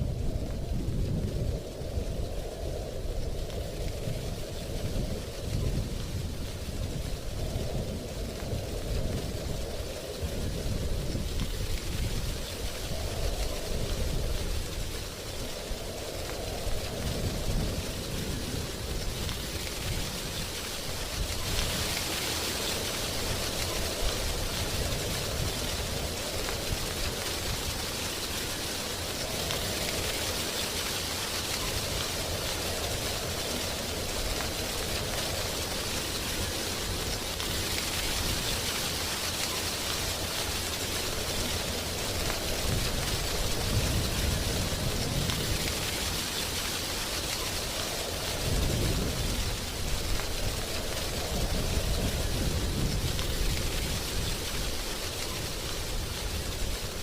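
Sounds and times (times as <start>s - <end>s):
wind rustling tree leaves: 0.0s - 57.0s.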